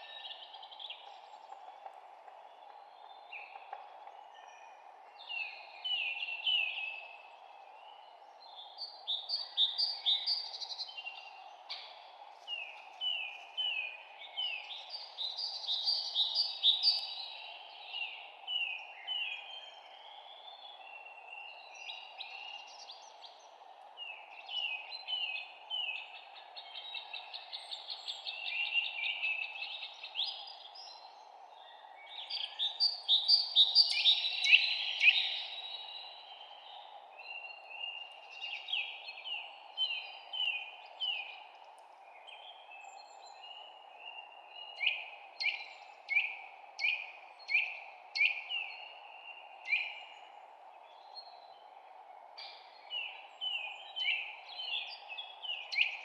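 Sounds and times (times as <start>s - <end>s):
low background hiss: 0.0s - 56.0s.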